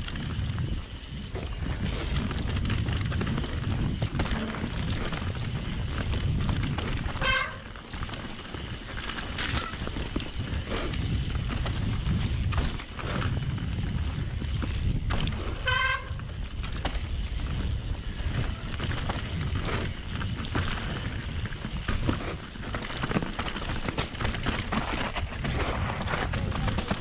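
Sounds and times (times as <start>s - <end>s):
bike knocks and rattles: 0.0s - 27.0s
wind and tyre noise: 0.0s - 27.0s.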